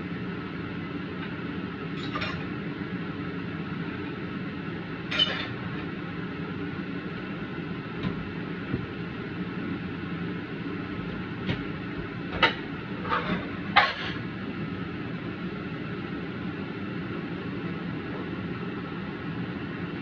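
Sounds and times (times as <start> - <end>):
vent fan whirring: 0.0 - 20.0.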